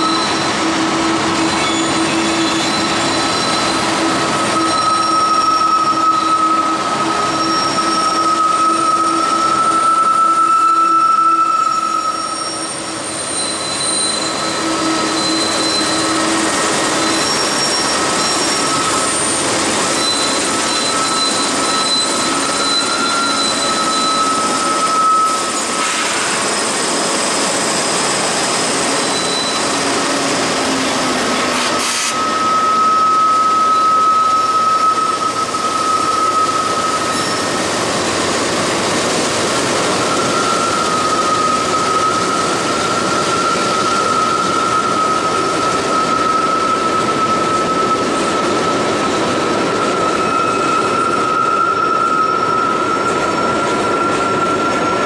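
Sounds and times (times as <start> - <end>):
diesel locomotives passing on bridge: 0.0 - 55.0.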